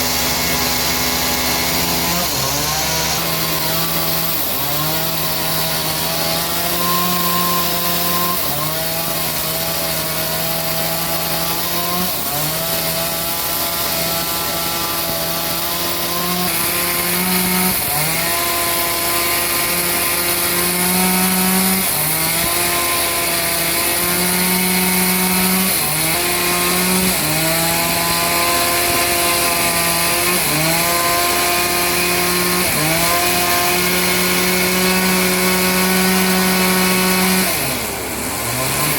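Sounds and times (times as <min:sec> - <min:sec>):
saw cutting hiss: 0:00.0 - 0:38.9
sawmill saw hum: 0:00.0 - 0:38.9.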